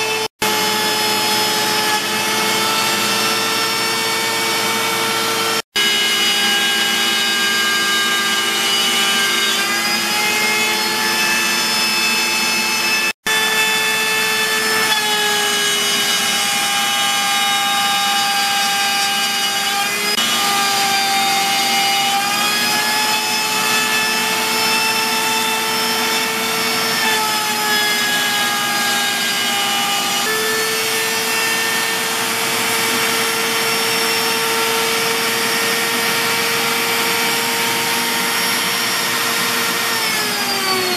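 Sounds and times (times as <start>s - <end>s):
router spindle cutting wood: 0.0s - 40.9s
shop vacuum running: 0.0s - 40.9s.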